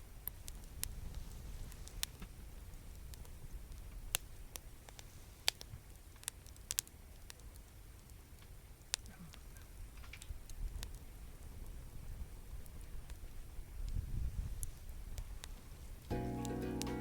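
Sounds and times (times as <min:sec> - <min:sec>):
low fire rumble: 0:00.0 - 0:16.5
campfire crackling and popping: 0:00.1 - 0:17.0.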